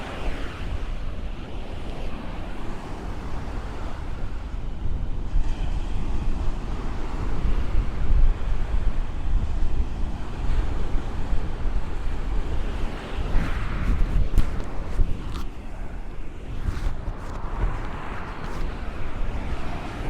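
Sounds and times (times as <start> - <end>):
ocean waves breaking: 0.0 - 20.0
wind rumbling on microphone: 0.0 - 20.0.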